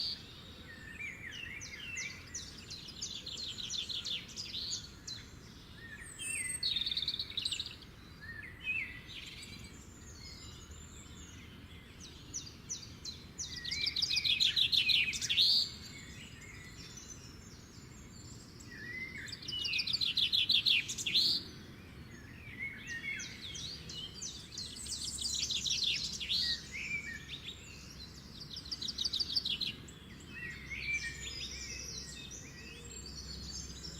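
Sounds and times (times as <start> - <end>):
birds chirping trills: 0.0 - 33.9
faint low background noise: 0.0 - 33.9.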